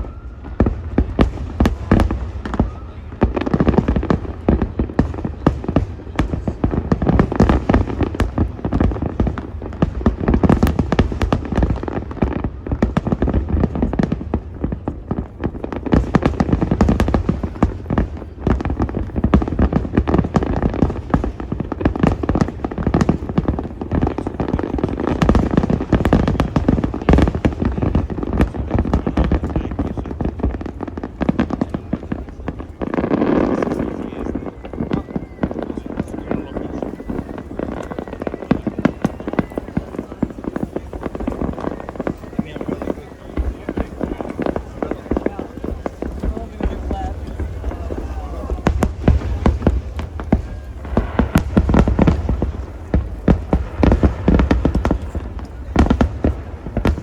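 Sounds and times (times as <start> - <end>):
fireworks booming and crackling: 0.0 - 57.0.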